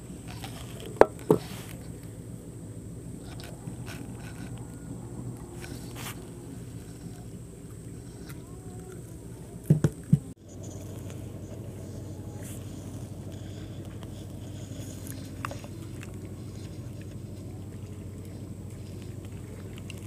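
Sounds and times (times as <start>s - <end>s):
low river hum: 0.0s - 20.0s.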